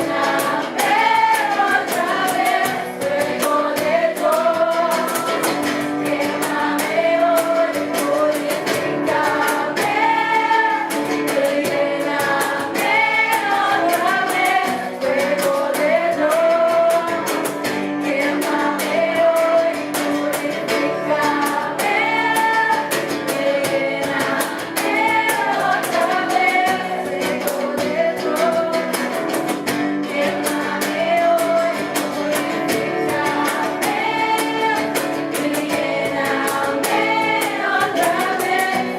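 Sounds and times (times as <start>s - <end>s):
group singing: 0.0s - 38.9s
guitar accompaniment: 0.0s - 38.9s.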